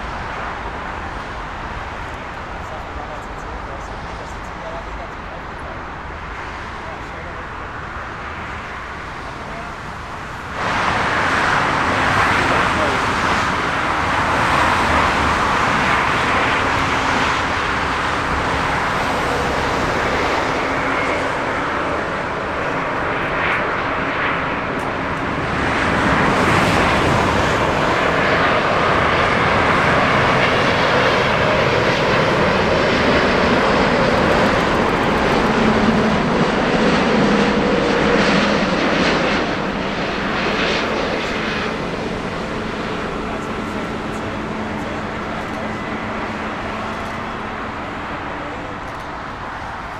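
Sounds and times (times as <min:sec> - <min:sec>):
jet engines roaring: 0:00.0 - 0:49.9.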